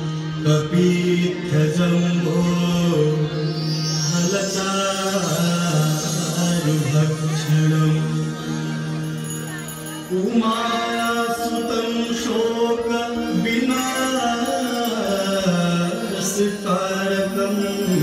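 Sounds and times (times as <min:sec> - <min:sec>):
chanted devotional singing: 0:00.0 - 0:18.0.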